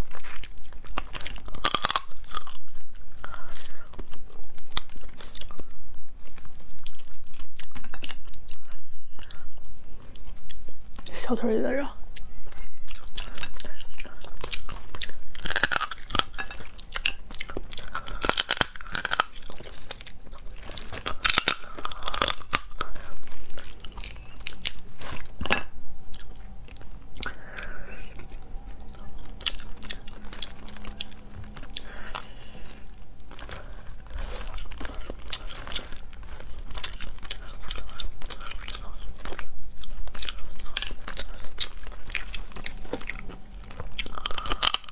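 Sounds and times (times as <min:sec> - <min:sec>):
crunching and chewing: 0:00.0 - 0:11.2, 0:12.0 - 0:44.9.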